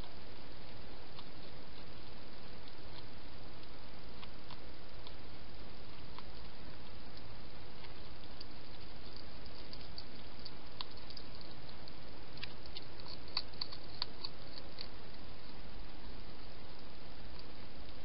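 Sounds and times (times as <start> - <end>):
steady hiss: 0.0 - 18.0
hedgehog clicking and smacking mouth: 1.1 - 15.6.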